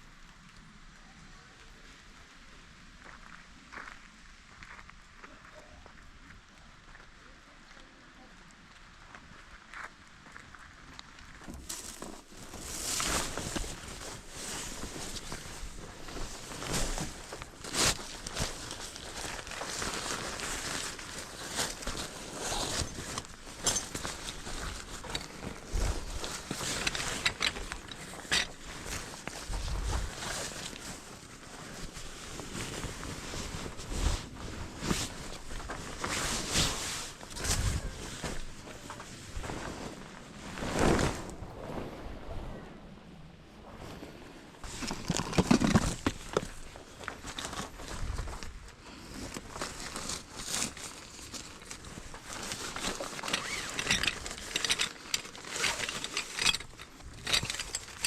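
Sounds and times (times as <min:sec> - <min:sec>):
rustling of fabric and bags: 0:08.2 - 0:42.7, 0:43.6 - 0:58.0.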